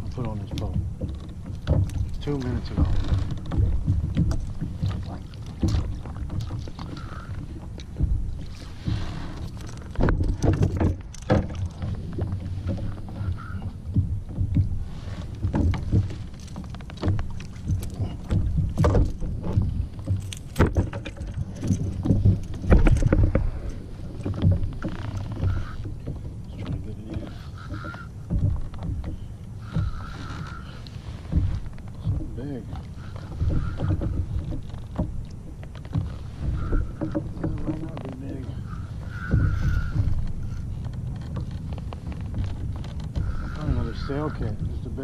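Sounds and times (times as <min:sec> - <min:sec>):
low knocks and splashes: 0:00.0 - 0:45.0
water lapping against boat hull: 0:00.0 - 0:45.0.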